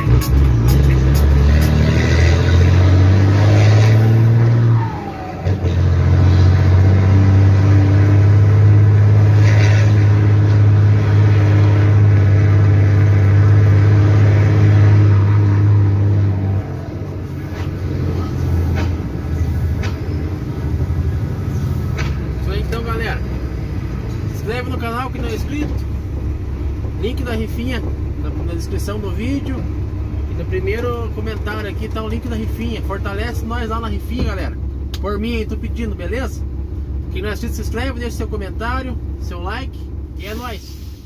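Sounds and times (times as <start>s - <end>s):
truck diesel engine pulling: 0.0s - 41.0s.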